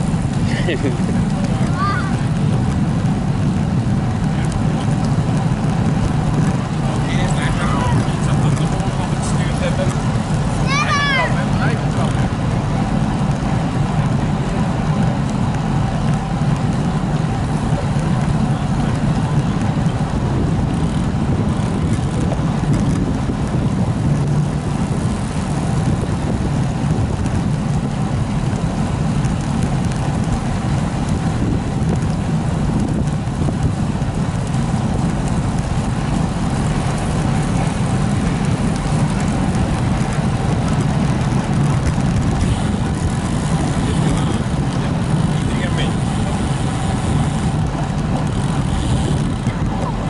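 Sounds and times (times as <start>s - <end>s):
wind rush on microphone: 0.0s - 50.0s.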